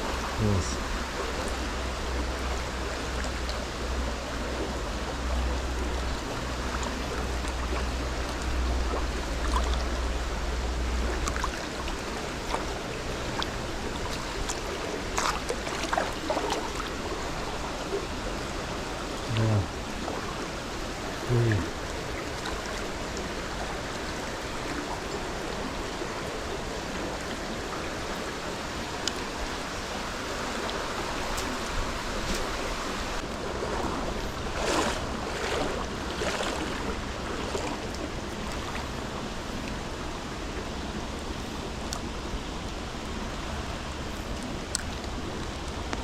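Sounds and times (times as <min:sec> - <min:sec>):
stream water rushing: 0:00.0 - 0:46.0
water splashes: 0:00.0 - 0:46.0.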